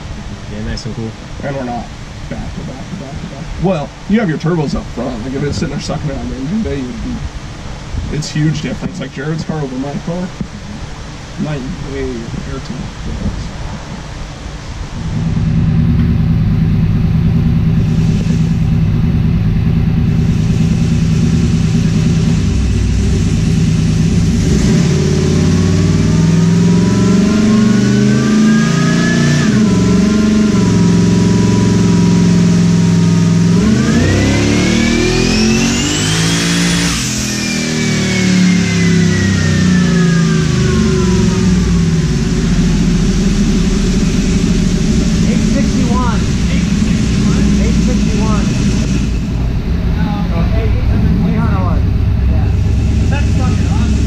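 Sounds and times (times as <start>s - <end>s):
engine running on dyno: 0.0s - 54.0s
turbo whine: 0.0s - 54.0s.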